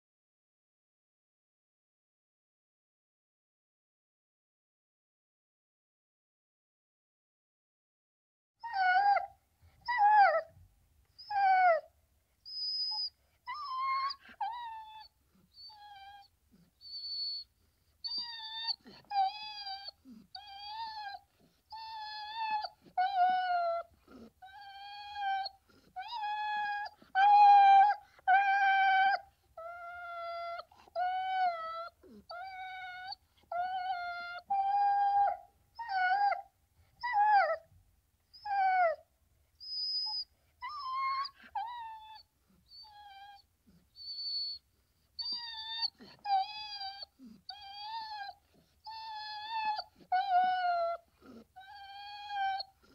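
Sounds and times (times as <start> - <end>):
dog whining and whimpering: 8.6 - 10.6, 11.2 - 37.7, 38.3 - 52.9.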